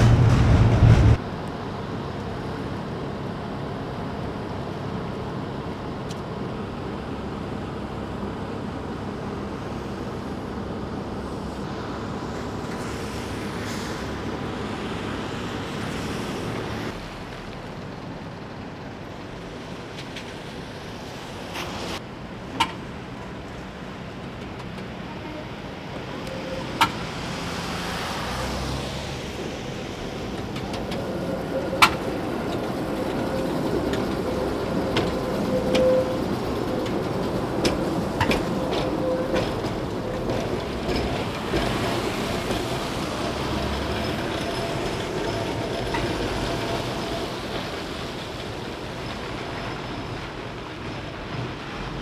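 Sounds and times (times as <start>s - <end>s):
tram rumbling past on rails: 0.0s - 52.0s.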